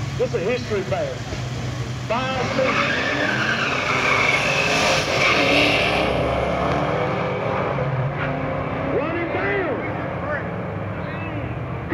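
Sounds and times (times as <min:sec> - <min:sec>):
cars accelerating hard: 0:00.0 - 0:11.9
tire noise: 0:00.0 - 0:11.9.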